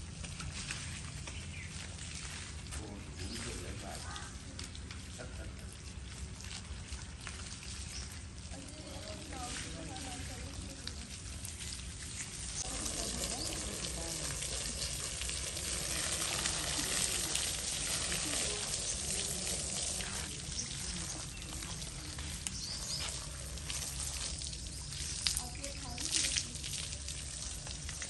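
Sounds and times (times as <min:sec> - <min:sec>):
hose water spraying: 0:00.0 - 0:28.0
water splashing on concrete: 0:00.0 - 0:28.0.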